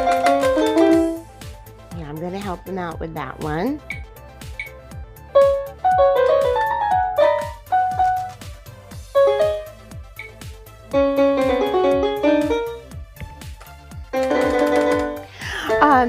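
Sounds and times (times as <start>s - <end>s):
electronic keyboard melody: 0.0s - 1.7s, 3.7s - 16.0s
keyboard rhythm track ticking: 0.0s - 16.0s.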